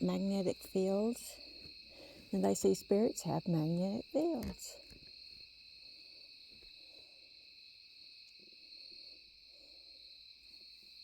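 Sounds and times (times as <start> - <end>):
night insect chorus: 0.0 - 11.0.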